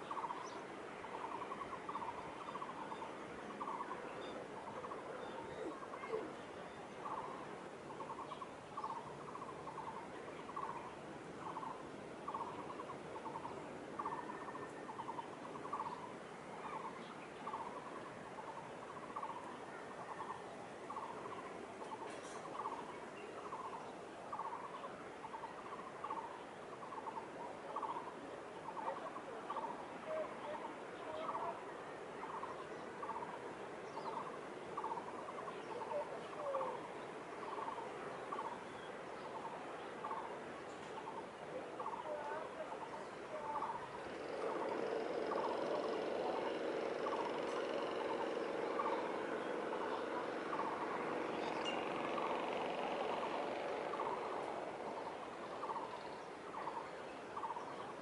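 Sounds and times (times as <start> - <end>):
distant background hum: 0.0 - 58.0.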